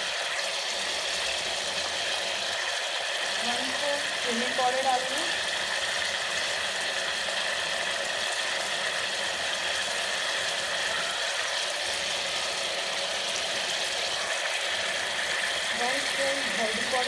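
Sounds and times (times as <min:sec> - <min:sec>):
onions and chicken sizzling: 0:00.0 - 0:17.0.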